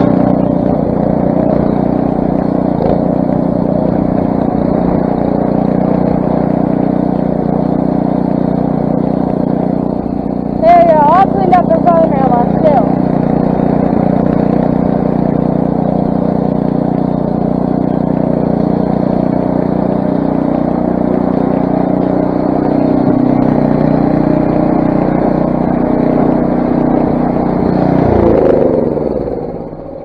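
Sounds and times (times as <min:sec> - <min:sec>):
snowblower engine running: 0:00.0 - 0:30.0.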